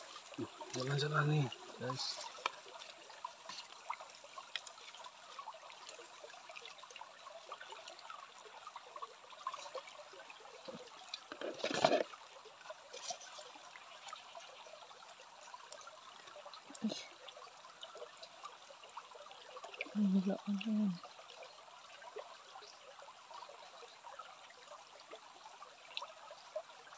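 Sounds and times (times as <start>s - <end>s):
stream trickling: 0.0s - 26.9s.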